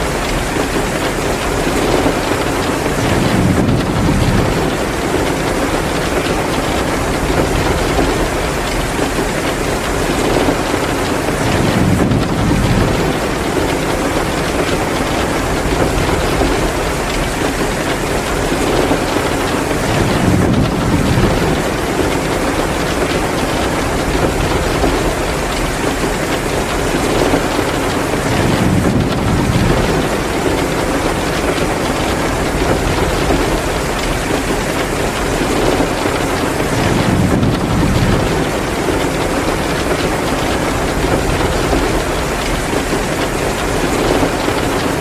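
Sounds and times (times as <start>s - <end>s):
heavy rain hissing: 0.0s - 45.0s.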